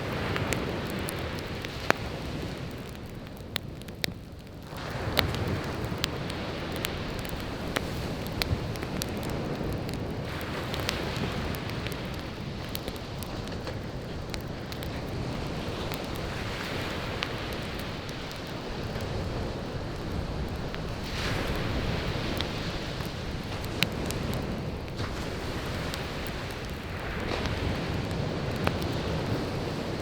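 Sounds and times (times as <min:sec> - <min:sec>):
campfire crackling and popping: 0:00.0 - 0:30.0
ocean waves breaking: 0:04.8 - 0:30.0.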